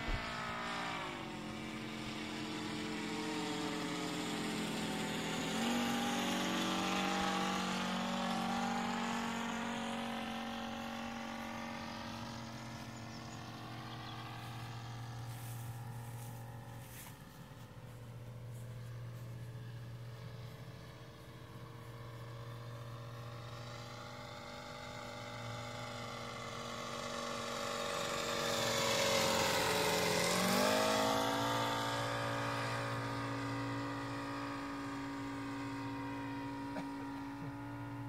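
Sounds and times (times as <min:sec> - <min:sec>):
model airplane engine flying by: 0:00.0 - 0:38.0.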